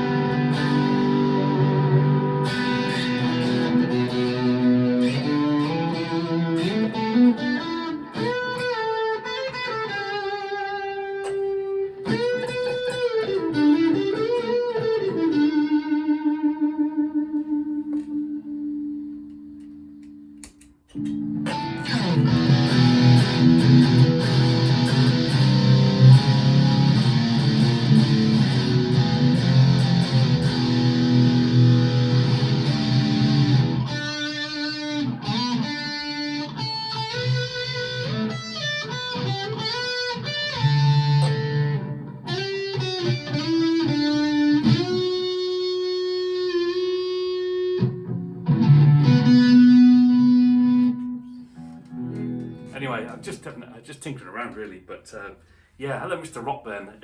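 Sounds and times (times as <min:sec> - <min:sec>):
electric guitar through an amp: 0:00.0 - 0:54.7.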